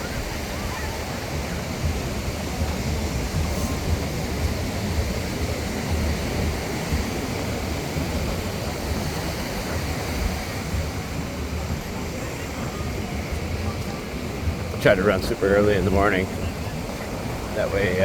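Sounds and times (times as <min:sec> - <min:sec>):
surf rushing: 0:00.0 - 0:18.0
wind buffeting microphone: 0:00.0 - 0:18.0.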